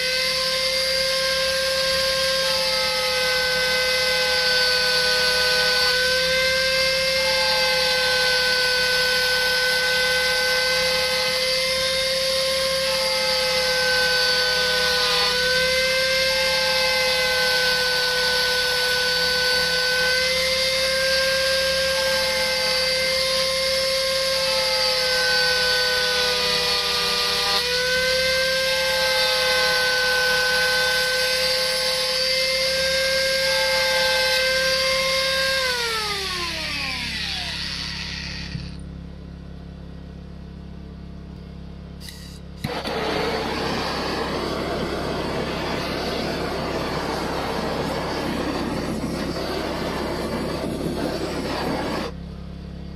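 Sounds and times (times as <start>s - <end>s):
gas blowtorch hissing: 0.0s - 38.7s, 42.0s - 52.2s
angle grinder whining into wood: 0.0s - 38.8s, 42.0s - 52.2s
grinder winding down: 0.0s - 38.8s, 42.0s - 52.2s.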